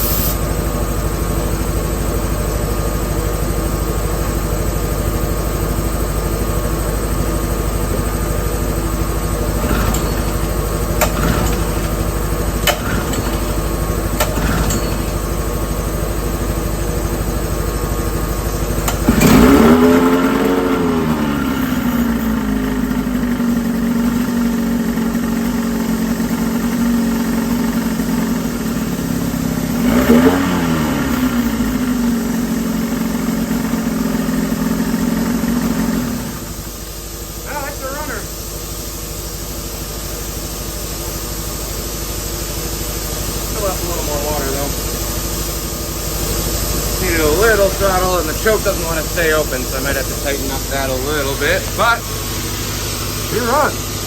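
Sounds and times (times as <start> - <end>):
outboard motor revving and idling: 0.0 - 54.0.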